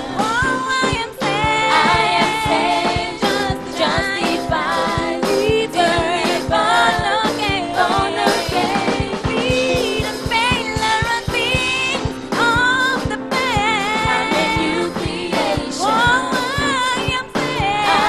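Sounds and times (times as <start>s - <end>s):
band with steady drum beat: 0.0s - 18.0s
singers performing gospel: 0.0s - 18.0s.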